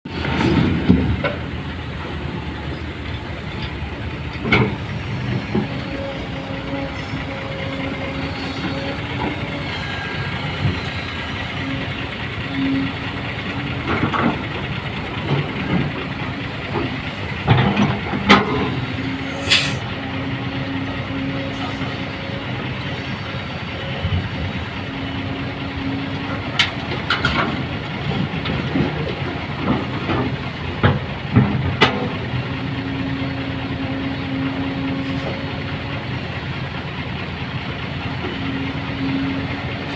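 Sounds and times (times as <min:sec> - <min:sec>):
heavy machinery droning: 0:00.1 - 0:39.9.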